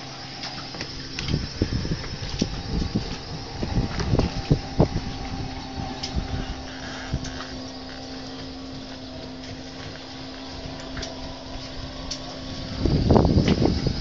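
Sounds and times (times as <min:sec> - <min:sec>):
low mechanical hum: 0:00.0 - 0:14.0
wind buffeting microphone: 0:00.6 - 0:14.0.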